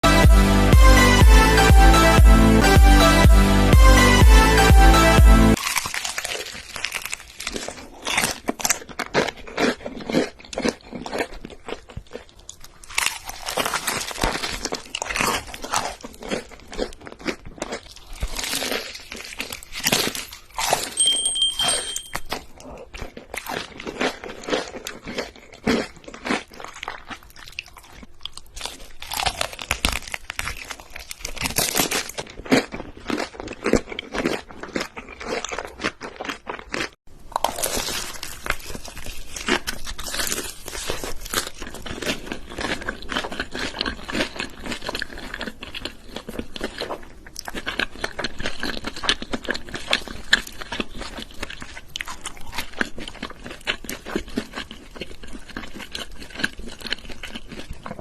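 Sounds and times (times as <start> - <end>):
chewing crispy food: 5.6 - 21.0, 22.2 - 58.0.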